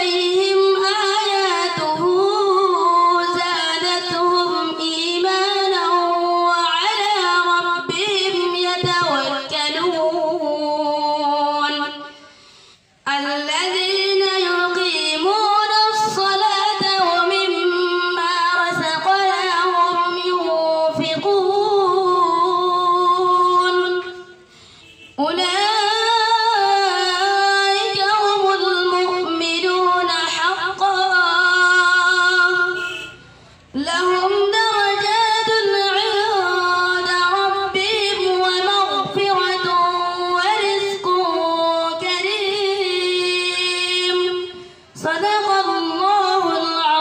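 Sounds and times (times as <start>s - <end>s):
boy reciting melodically: 0.0s - 24.6s, 25.2s - 47.0s.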